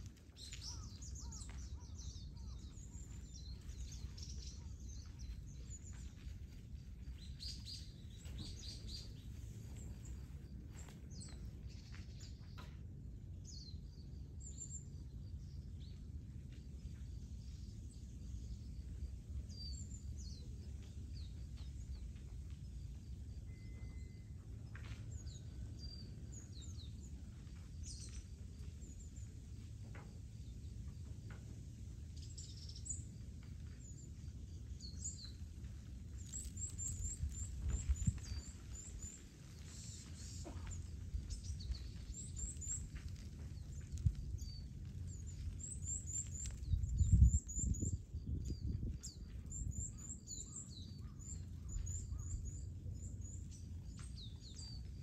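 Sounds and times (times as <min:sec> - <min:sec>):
small birds chirping: 0:00.0 - 0:55.0
steady low rumble: 0:00.0 - 0:55.0.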